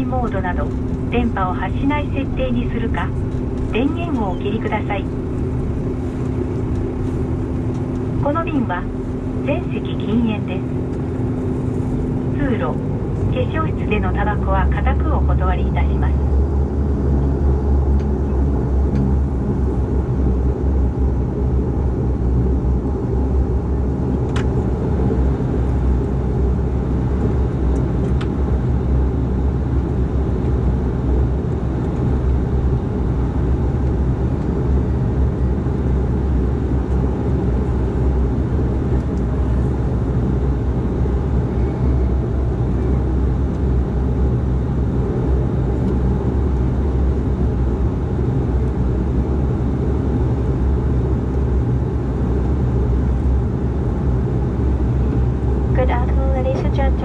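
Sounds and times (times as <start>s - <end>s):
airliner cabin drone: 0.0s - 57.0s.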